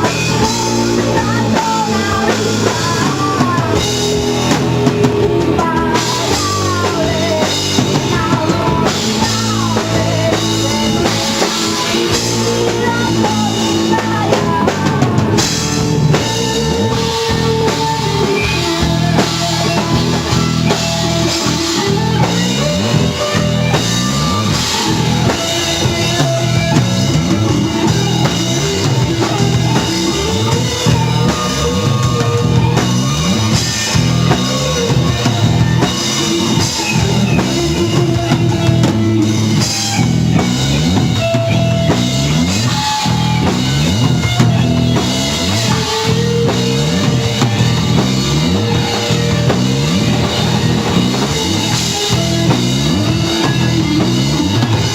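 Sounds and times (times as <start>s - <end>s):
drum kit beat: 0.0s - 54.9s
electric guitar: 0.0s - 54.9s.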